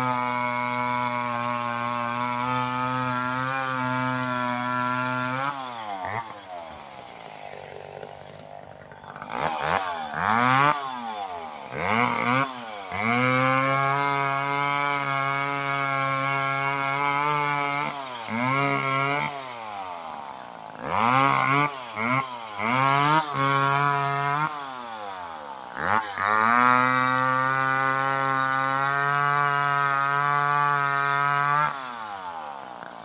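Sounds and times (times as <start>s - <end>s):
chainsaw revving and idling: 0.0s - 33.0s.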